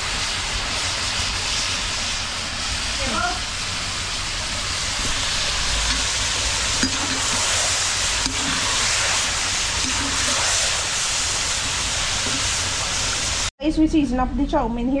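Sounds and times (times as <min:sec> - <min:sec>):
chicken sizzling in a pot: 0:00.0 - 0:13.5.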